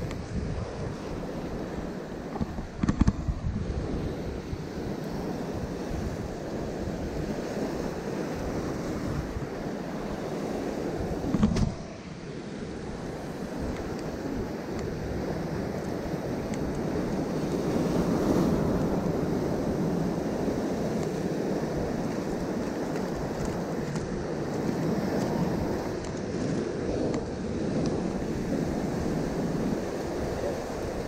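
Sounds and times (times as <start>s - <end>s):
surf breaking over rocks: 0.0s - 31.0s
wind buffeting microphone: 0.0s - 31.0s.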